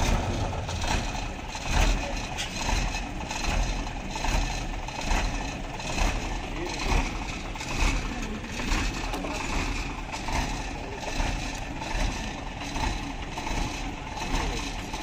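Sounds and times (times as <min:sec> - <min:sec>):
heavy truck engines rumbling: 0:00.0 - 0:15.0.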